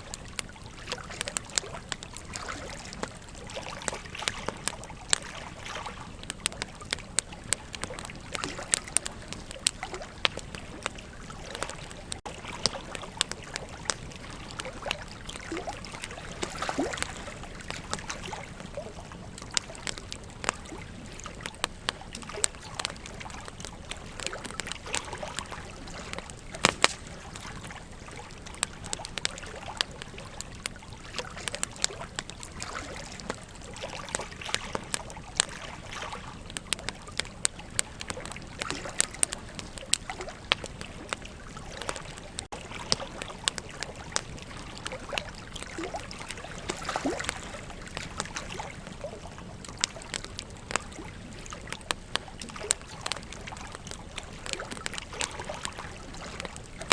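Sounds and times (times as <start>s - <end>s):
flowing river water: 0.0s - 56.9s
wood fire crackling and popping: 0.0s - 56.9s.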